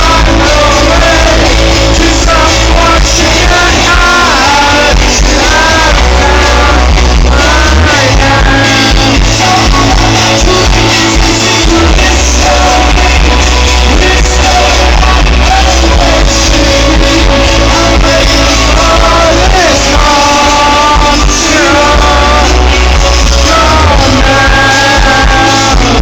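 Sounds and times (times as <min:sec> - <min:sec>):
live rock band playing: 0:00.0 - 0:26.0
man singing: 0:00.0 - 0:26.0.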